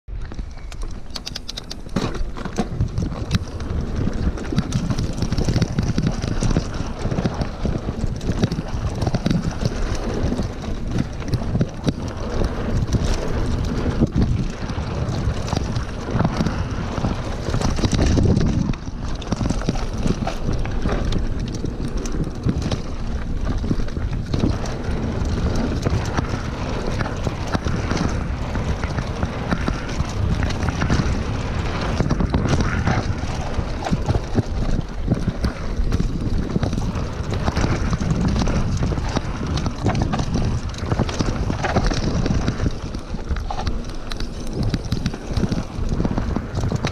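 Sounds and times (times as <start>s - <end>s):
bike rattles and knocks: 0.1s - 46.9s
tyres rushing on dirt: 0.1s - 46.9s
wind buffeting microphone: 0.1s - 46.9s.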